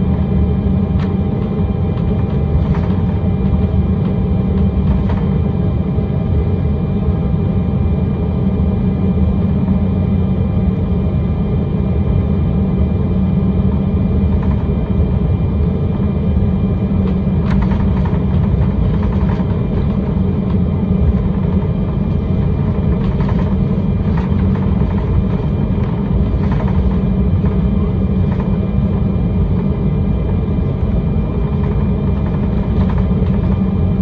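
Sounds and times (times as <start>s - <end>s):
faint jet engine whine: 0.0s - 34.0s
jet cabin low rumble: 0.0s - 34.0s.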